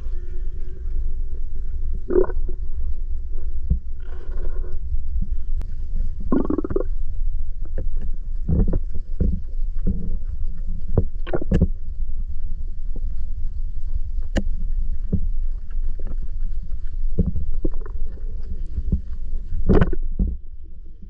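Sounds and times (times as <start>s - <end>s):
muffled underwater rumble: 0.0s - 21.0s.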